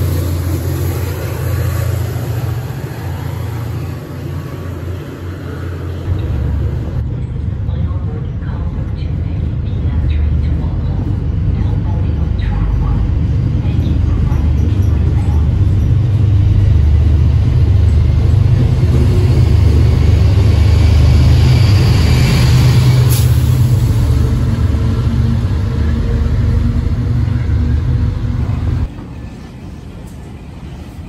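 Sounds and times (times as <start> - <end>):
train rumbling past: 0.0 - 31.0.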